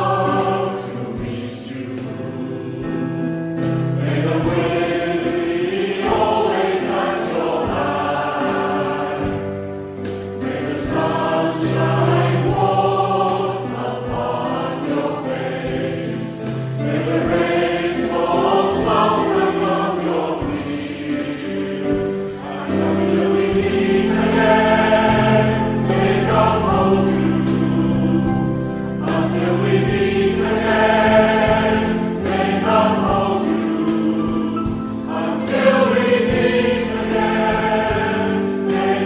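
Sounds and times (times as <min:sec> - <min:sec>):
choir singing held chords: 0:00.0 - 0:39.0.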